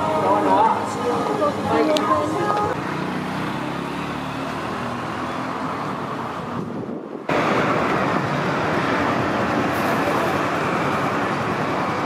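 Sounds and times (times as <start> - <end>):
cars moving past: 0.0 - 12.0
hissy street noise: 0.0 - 12.0
motor scooter passing: 0.0 - 12.0.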